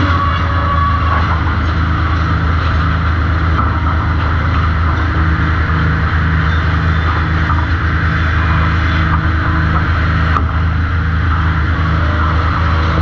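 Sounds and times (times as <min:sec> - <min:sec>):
high rushing saw noise: 0:00.0 - 0:13.0
low motor hum: 0:00.0 - 0:13.0.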